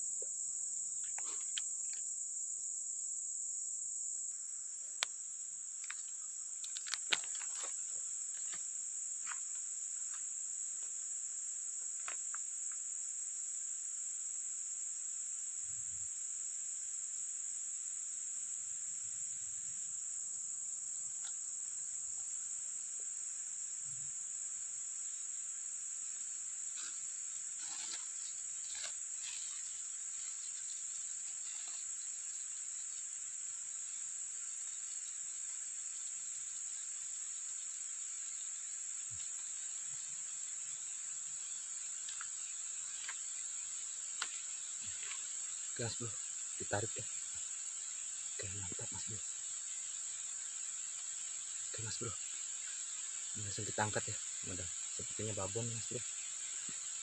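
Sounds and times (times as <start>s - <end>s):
insects chorus shrill drone: 0.0s - 57.0s.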